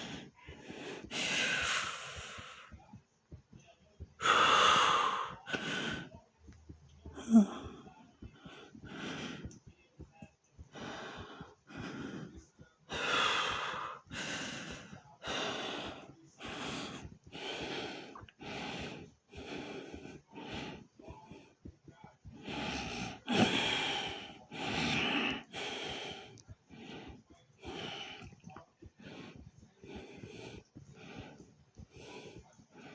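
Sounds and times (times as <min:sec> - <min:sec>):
person breathing hard: 0:00.0 - 0:03.4, 0:04.2 - 0:32.9.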